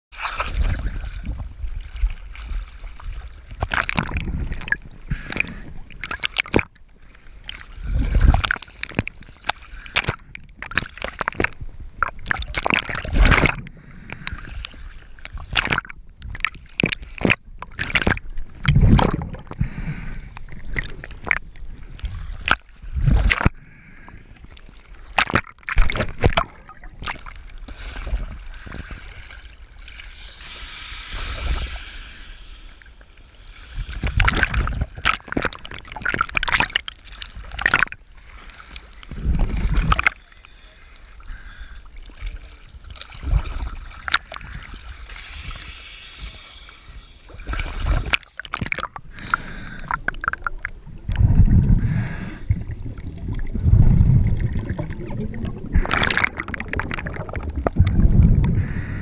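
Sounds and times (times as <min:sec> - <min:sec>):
water splashing: 0:00.1 - 0:13.6, 0:14.2 - 0:19.9, 0:24.5 - 0:58.9.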